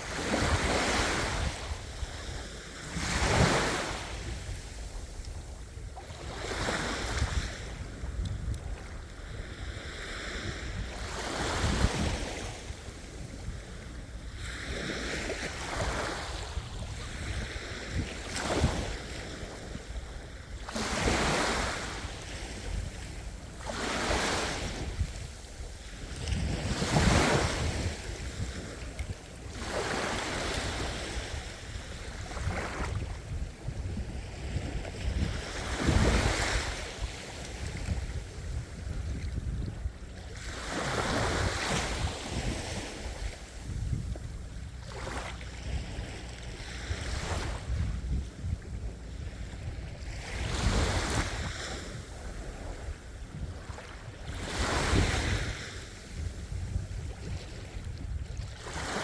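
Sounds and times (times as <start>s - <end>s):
sea waves breaking: 0.0s - 59.0s.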